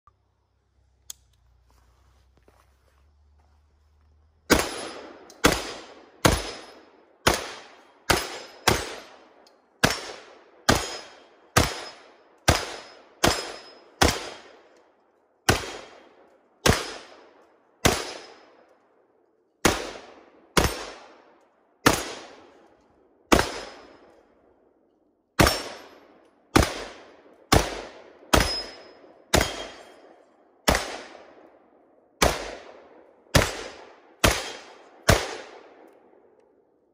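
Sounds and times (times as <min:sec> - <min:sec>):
rifle shots with echo: 0:04.5 - 0:14.8, 0:15.4 - 0:24.8, 0:25.4 - 0:36.7.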